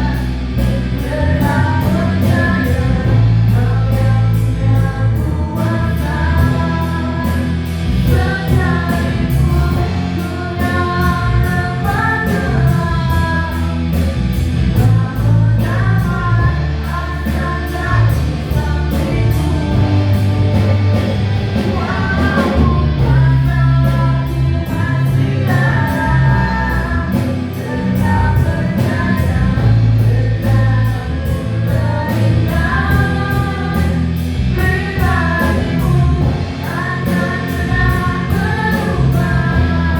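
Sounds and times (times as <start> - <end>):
bass: 0.0 - 39.9
people singing: 0.0 - 39.9
steady drum beat: 0.0 - 39.9.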